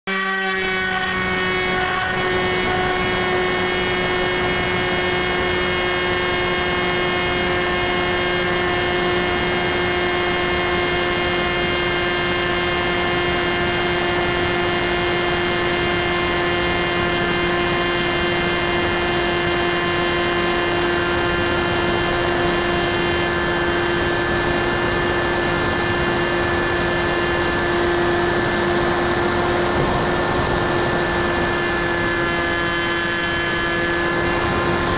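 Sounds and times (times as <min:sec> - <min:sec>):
electric motor and propeller whine: 0:00.1 - 0:34.9.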